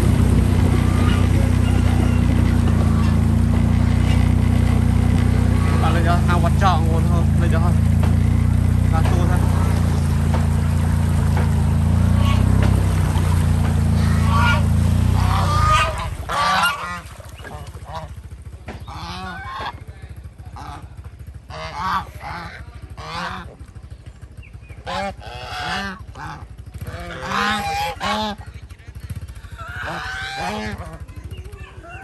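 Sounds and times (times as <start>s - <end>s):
motor humming: 0.0s - 32.0s
poultry honking: 0.6s - 19.8s, 20.5s - 23.5s, 24.8s - 28.5s, 29.1s - 31.1s.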